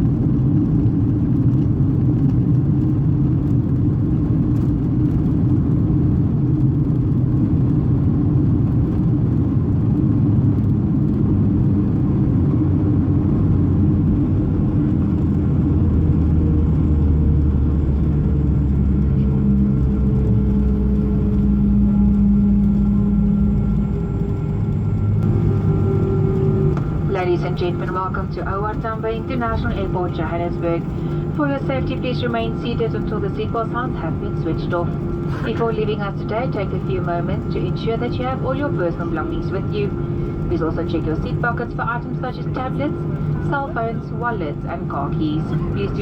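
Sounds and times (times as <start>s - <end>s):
jet engines and airflow rumble: 0.0s - 46.0s.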